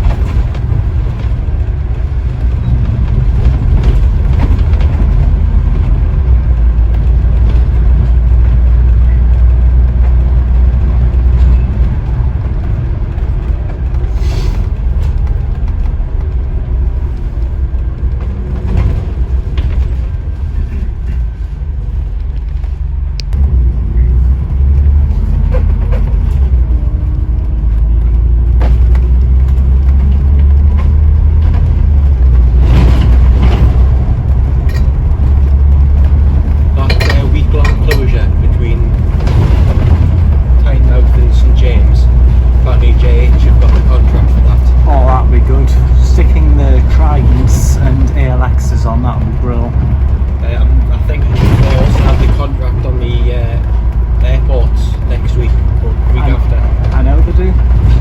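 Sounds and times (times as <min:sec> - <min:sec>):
bus diesel engine rumble: 0:00.0 - 0:58.0
road noise: 0:00.0 - 0:58.0.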